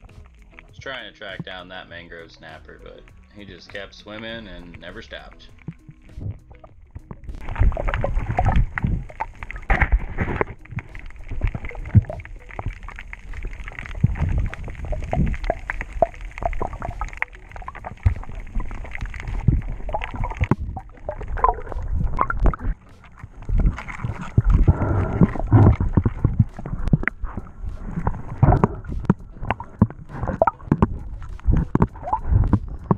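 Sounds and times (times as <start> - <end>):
underwater gurgling and rushing: 0.0 - 32.9.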